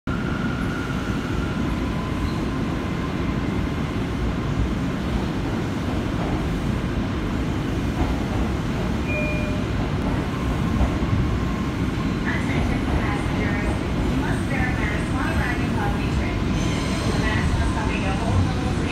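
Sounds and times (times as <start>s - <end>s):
subway train rumble: 0.1s - 18.9s.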